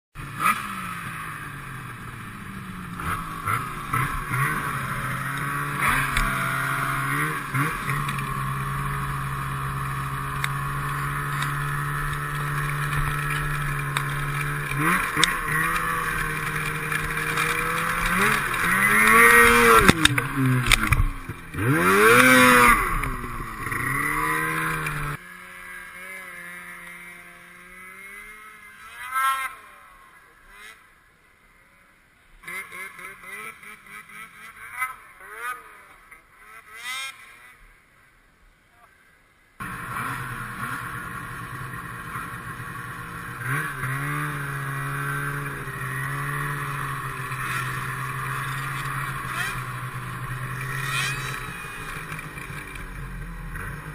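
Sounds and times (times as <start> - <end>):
snowmobile engine revving: 0.2 - 30.9, 32.4 - 37.6, 39.6 - 53.9.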